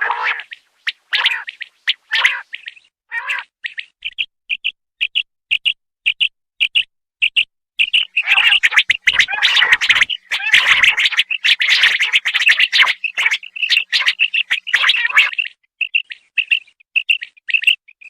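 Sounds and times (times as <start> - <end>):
quail calling: 0.0 - 5.6, 6.2 - 17.8.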